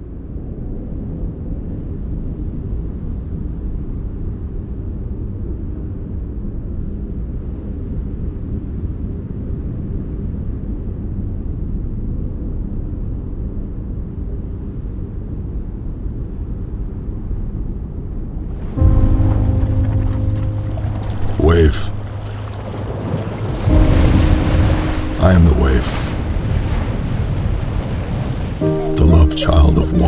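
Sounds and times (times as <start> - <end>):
deep rumble of ocean wave: 0.0 - 30.0.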